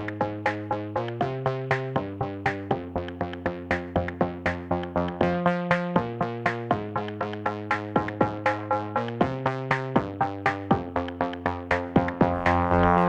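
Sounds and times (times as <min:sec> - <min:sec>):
drum machine beat: 0:00.0 - 0:13.0
synthesizer chords: 0:00.0 - 0:13.0.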